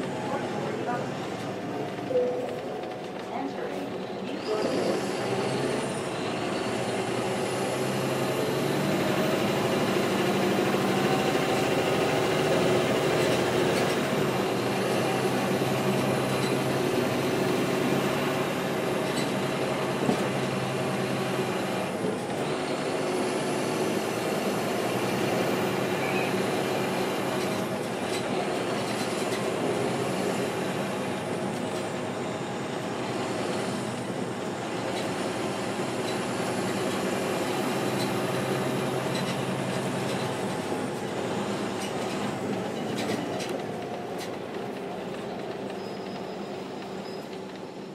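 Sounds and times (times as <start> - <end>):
bus diesel engine running: 0.0 - 47.9
road noise: 0.0 - 47.9.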